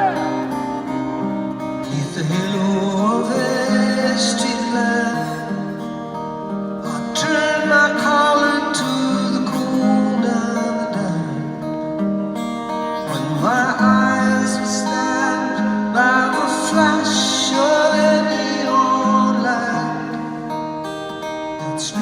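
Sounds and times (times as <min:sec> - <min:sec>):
man singing: 0:00.0 - 0:01.0, 0:01.6 - 0:05.9, 0:06.8 - 0:11.8, 0:12.9 - 0:20.6, 0:21.2 - 0:22.0
acoustic guitar: 0:00.0 - 0:22.0.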